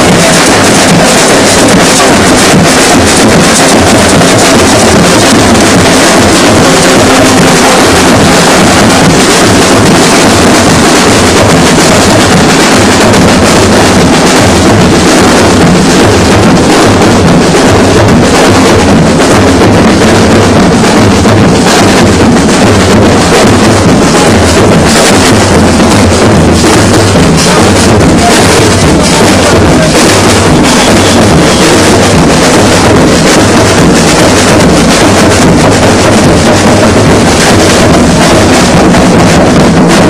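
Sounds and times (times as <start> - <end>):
drum corps beating loud rhythm: 0.0 - 40.0.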